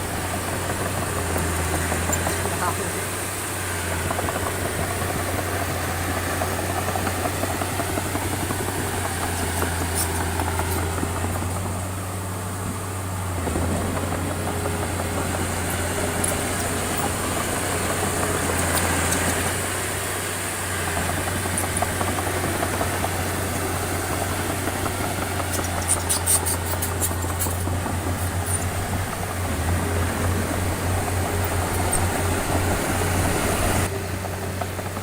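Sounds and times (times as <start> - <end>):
diesel machinery engine droning: 0.0 - 35.0.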